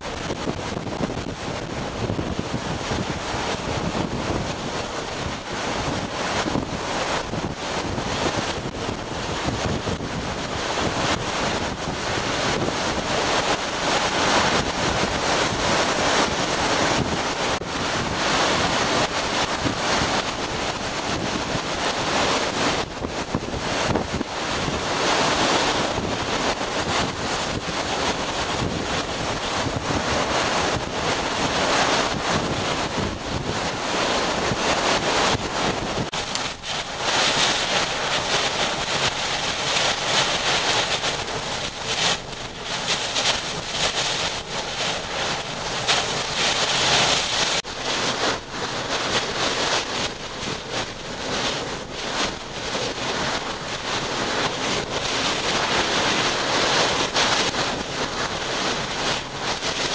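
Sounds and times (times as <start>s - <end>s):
driving rain: 0.0s - 59.9s
strong wind: 0.0s - 59.9s
wind noise on microphone: 0.0s - 59.9s.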